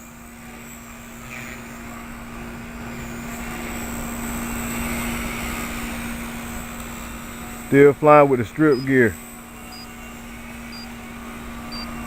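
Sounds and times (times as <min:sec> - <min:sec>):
rc helicopter rotor hum: 0:00.0 - 0:12.0.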